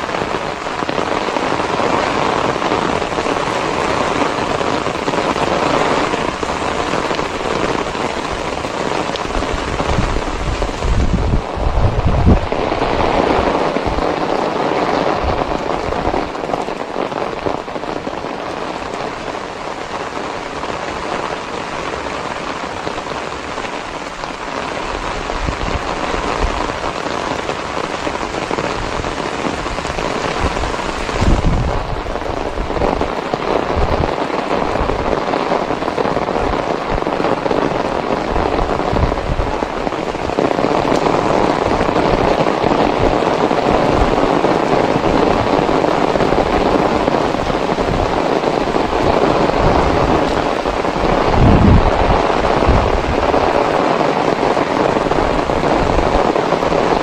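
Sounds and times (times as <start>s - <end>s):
heavy rain on road: 0.0s - 57.0s.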